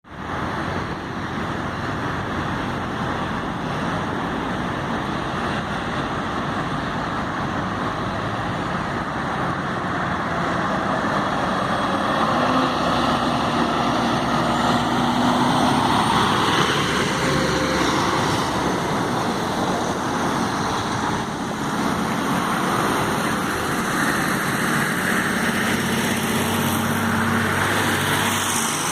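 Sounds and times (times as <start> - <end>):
road noise: 0.0 - 28.9
bus engine running: 0.1 - 28.9.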